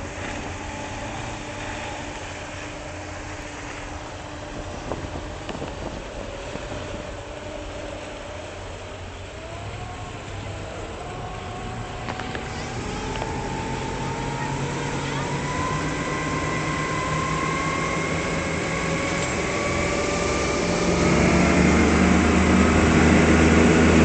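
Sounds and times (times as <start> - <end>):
outboard engines running: 0.0 - 24.0
wind on microphone: 0.0 - 24.0.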